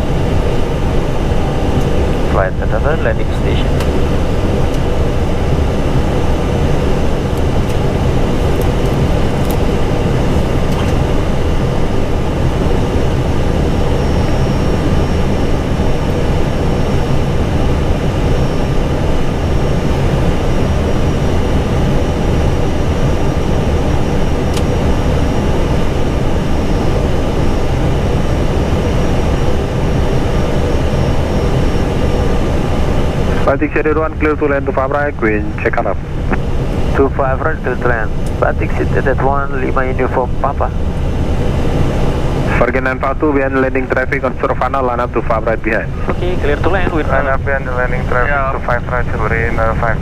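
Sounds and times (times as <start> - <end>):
aircraft engine noise: 0.0 - 50.0.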